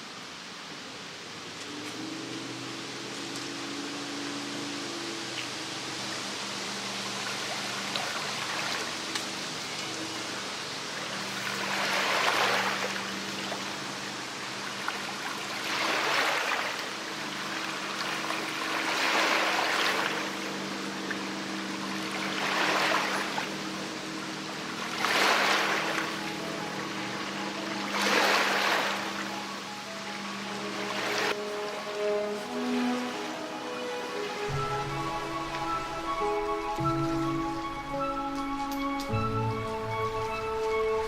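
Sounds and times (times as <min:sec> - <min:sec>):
river water washing onto beach: 0:00.0 - 0:41.0
steady water noise: 0:00.0 - 0:41.0.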